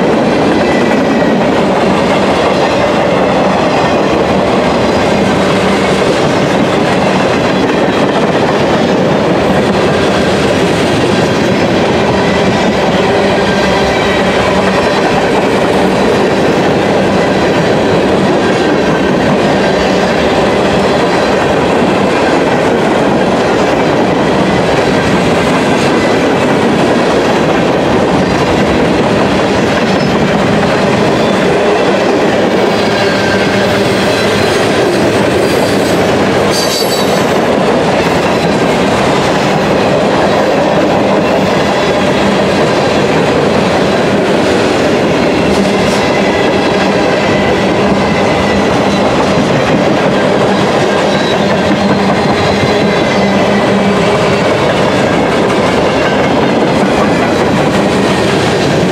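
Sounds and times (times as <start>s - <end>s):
freight train wheels rumbling on rails: 0.0s - 58.9s.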